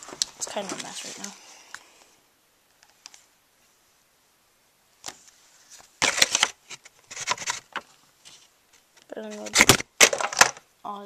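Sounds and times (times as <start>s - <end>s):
rustling: 0.0s - 4.0s, 4.9s - 10.6s.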